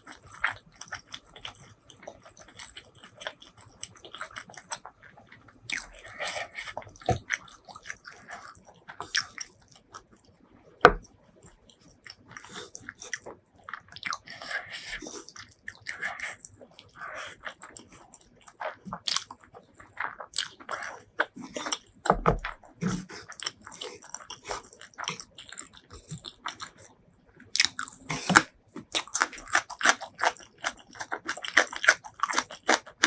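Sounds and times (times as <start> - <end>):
person chewing crunchy food: 0.0 - 33.0.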